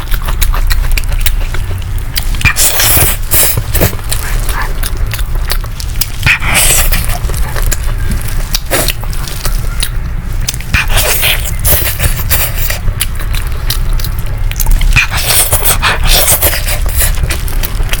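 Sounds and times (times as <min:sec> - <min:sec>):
chewing and biting: 0:00.0 - 0:18.0.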